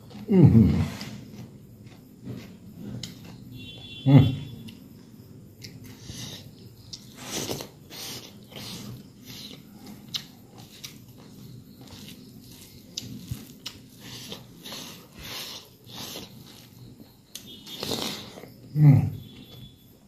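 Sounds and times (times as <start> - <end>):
person chewing: 0.0 - 3.8, 5.6 - 19.6.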